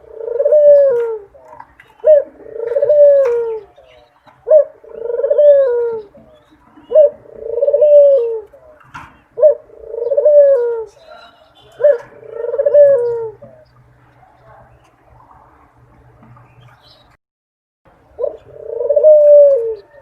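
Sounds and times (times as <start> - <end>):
dove cooing: 0.0 - 15.8, 18.0 - 20.0.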